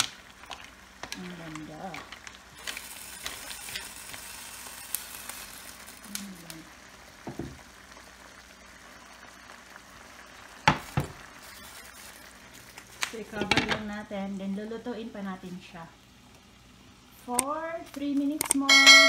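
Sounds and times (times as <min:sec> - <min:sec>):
sizzling in a frying pan: 0:00.0 - 0:19.0.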